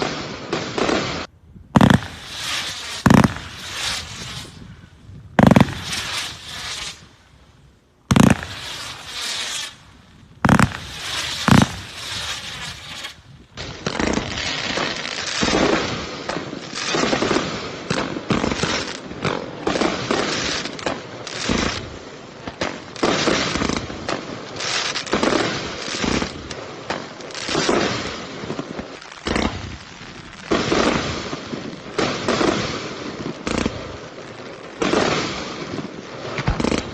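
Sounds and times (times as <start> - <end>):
crackling firework bangs: 0.0 - 36.9
firework reports: 0.0 - 36.9.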